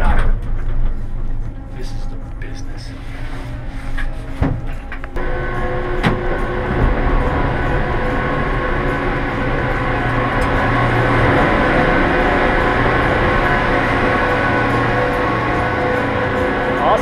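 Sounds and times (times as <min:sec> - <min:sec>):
gondola lift machinery whirring: 0:00.0 - 0:17.0
steady whining tones: 0:00.0 - 0:17.0.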